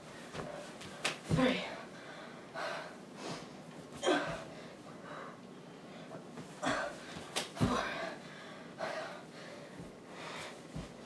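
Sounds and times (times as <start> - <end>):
woman breathing hard: 1.6 - 11.0.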